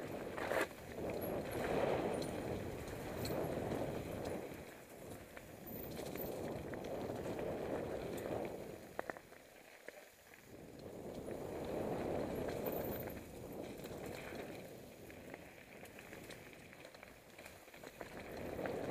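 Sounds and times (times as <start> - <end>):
bike tyres rushing on dirt trail: 0.0 - 18.9.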